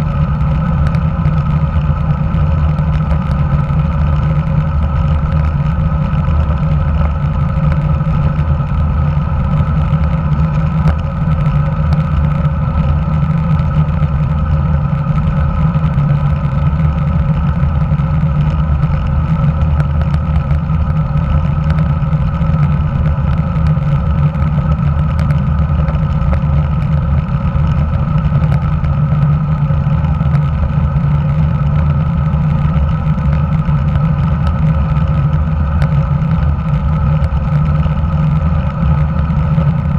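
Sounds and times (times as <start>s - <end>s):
bike tyre rumble on asphalt: 0.0s - 39.9s.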